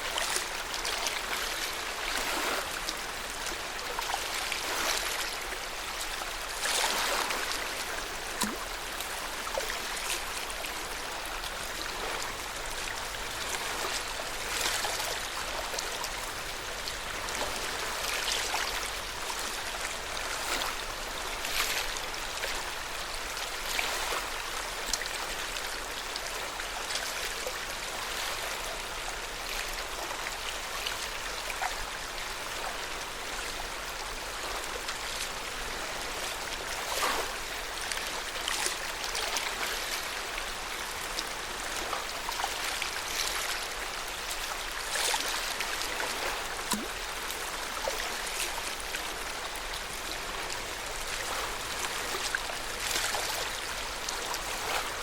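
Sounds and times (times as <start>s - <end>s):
small water splashes: 0.0s - 32.7s, 34.0s - 55.0s
steady wash of water: 0.0s - 55.0s.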